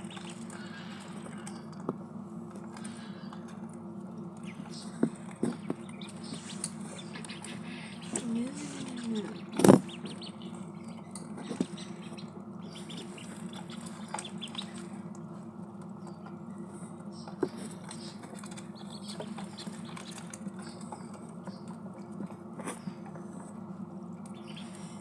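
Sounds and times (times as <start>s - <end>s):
ducklings pecking and dabbling: 0.0s - 25.0s.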